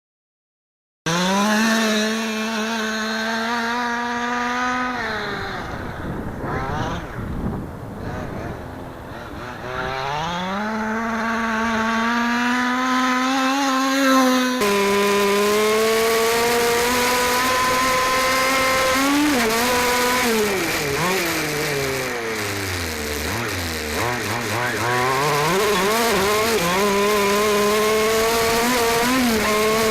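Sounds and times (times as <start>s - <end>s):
two-stroke engine revving: 1.1s - 29.9s.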